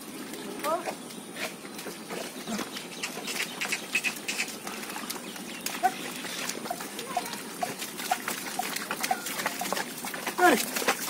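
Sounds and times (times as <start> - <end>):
hooves splashing through mud: 0.0 - 11.0.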